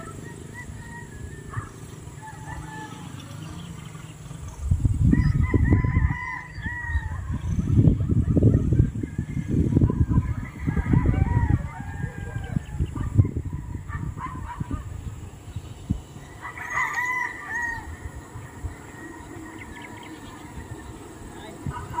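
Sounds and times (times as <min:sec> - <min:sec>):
roosters crowing: 0:00.0 - 0:04.1, 0:05.0 - 0:15.2, 0:16.0 - 0:22.0.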